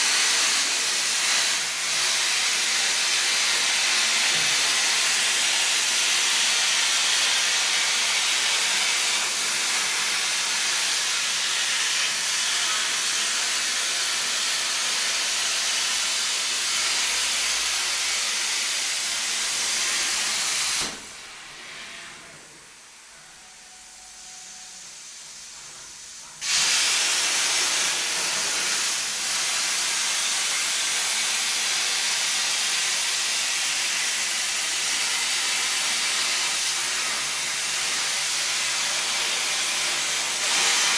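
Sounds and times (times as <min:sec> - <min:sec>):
plasma cutter arc hissing: 0:00.0 - 0:22.0, 0:23.5 - 0:40.9.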